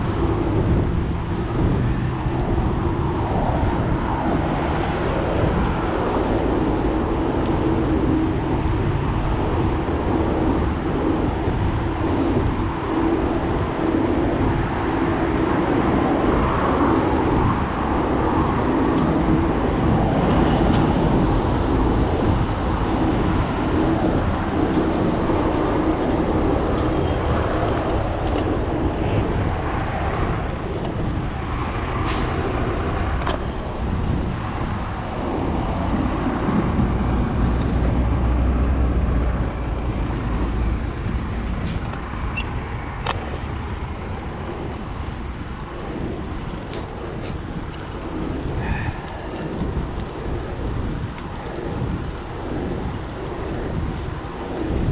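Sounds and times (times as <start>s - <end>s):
bike tyres rolling on pavement: 0.0s - 54.9s
cars passing: 0.0s - 54.9s
wind on microphone: 0.0s - 54.9s.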